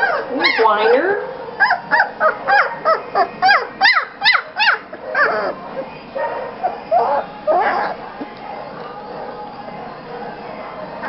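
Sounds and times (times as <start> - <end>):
puppy whining: 0.0 - 9.4.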